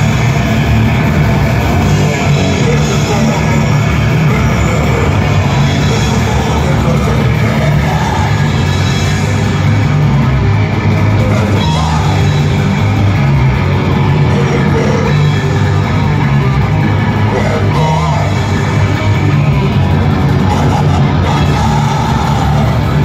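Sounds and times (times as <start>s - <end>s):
heavy metal band playing: 0.0s - 23.0s.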